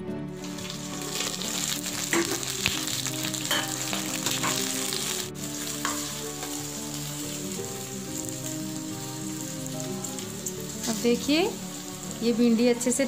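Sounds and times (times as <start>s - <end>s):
vegetables sizzling in hot oil: 0.4s - 13.0s.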